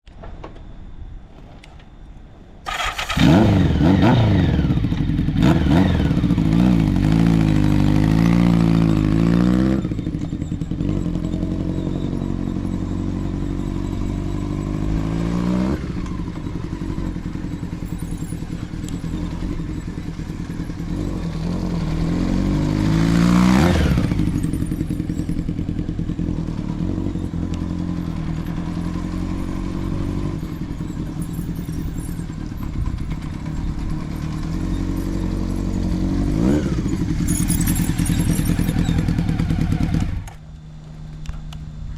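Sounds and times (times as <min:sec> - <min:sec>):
motorcycle engine passing: 0:02.7 - 0:41.1.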